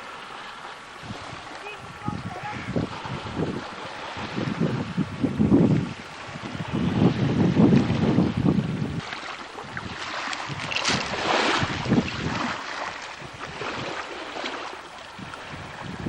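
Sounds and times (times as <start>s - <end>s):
waves rushing: 0.0s - 16.0s
wind buffeting microphone: 0.9s - 16.0s.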